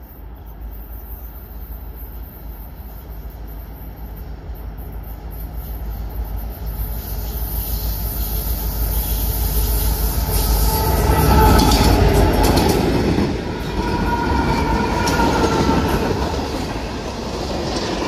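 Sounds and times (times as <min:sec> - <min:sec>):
train rumble and rail noise: 0:00.0 - 0:18.0.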